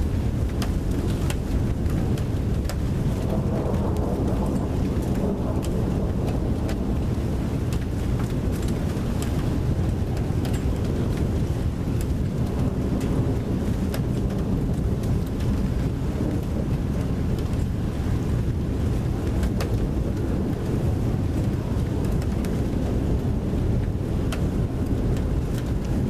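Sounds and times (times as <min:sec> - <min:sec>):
raindrops ticking: 0:00.0 - 0:26.0
wind buffeting microphone: 0:00.0 - 0:26.0.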